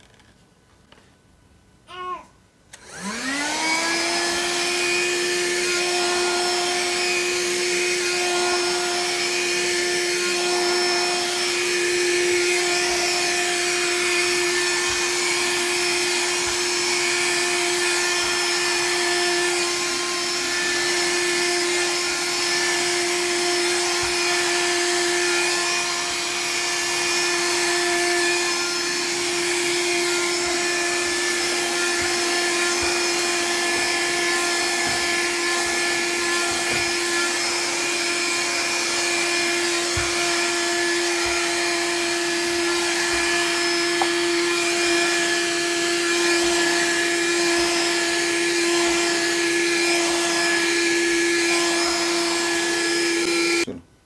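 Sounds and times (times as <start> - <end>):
handheld vacuum cleaner whine: 2.7 - 53.8.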